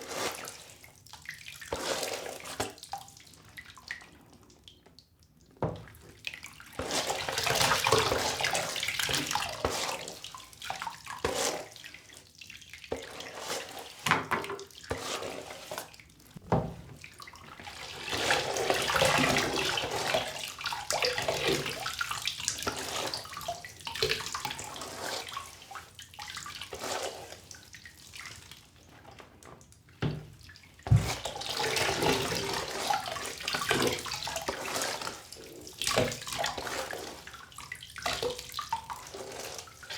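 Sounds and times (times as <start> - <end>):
tap water splashing in sink: 1.2 - 4.1, 4.7 - 11.9, 12.7 - 28.3, 29.1 - 39.9.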